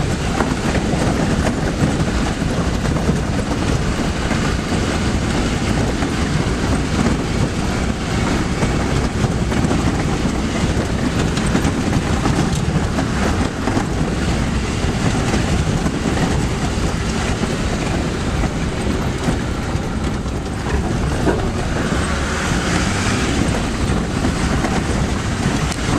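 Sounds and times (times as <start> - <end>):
vehicle engine drone: 0.0 - 25.9.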